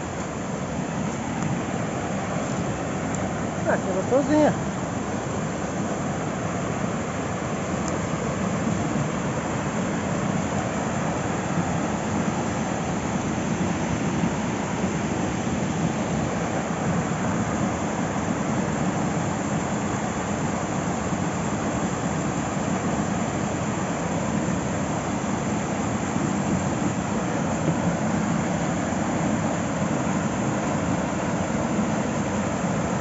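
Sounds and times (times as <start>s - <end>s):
rushing flowing water: 0.0s - 33.0s.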